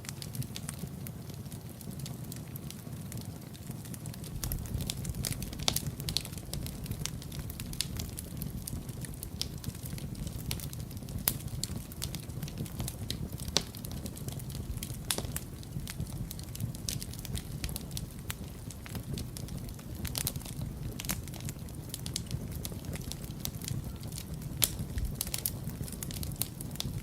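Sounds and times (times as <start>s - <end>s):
fire crackling and snapping: 0.0s - 27.0s
low rumble of flames: 0.0s - 27.0s.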